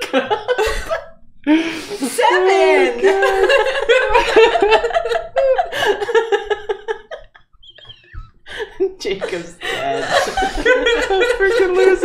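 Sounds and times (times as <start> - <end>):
group of people laughing: 0.0 - 1.2, 2.5 - 12.0.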